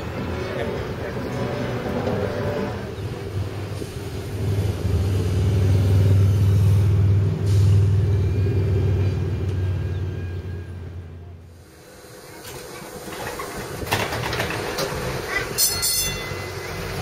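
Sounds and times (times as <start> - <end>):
streetcar running on track: 0.0 - 17.0.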